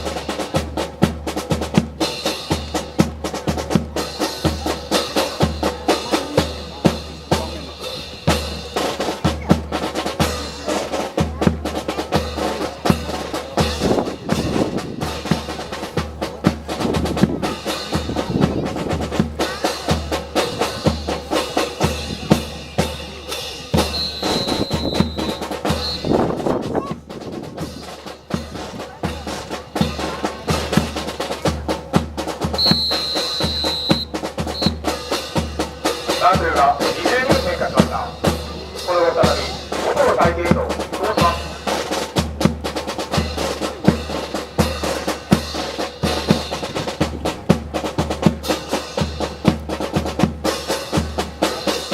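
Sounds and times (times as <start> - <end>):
bass drum beat: 0.0 - 51.9
snare drum rolls and rimshots: 0.0 - 51.9.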